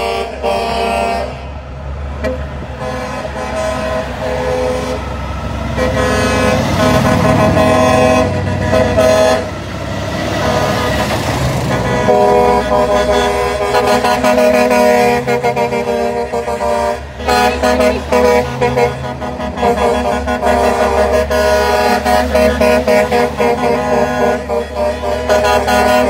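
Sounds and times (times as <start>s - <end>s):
truck air horns blowing: 0.0s - 1.6s, 2.2s - 26.0s
truck engine and tyre noise: 0.0s - 26.0s.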